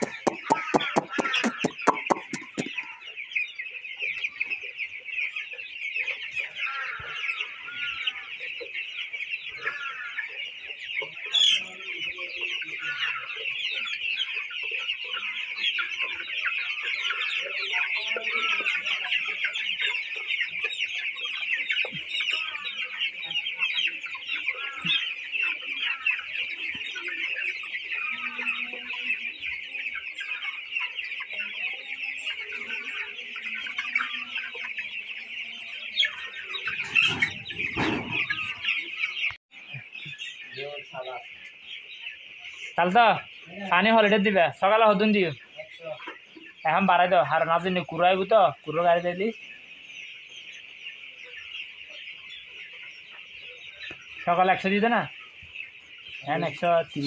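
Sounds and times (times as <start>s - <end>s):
chicks peeping and chirping: 0.0s - 57.0s.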